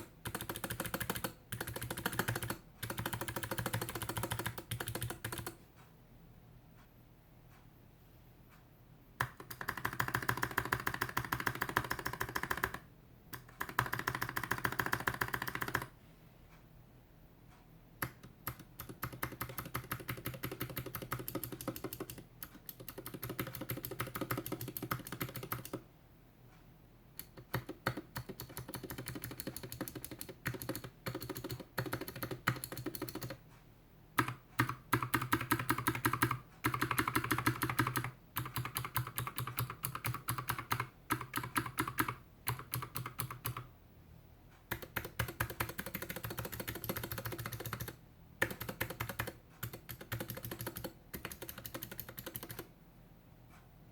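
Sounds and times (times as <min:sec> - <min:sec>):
clicky mechanical keyboard typing: 0:00.0 - 0:05.6, 0:09.2 - 0:16.0, 0:18.0 - 0:25.8, 0:27.2 - 0:33.4, 0:34.2 - 0:43.7, 0:44.7 - 0:52.7.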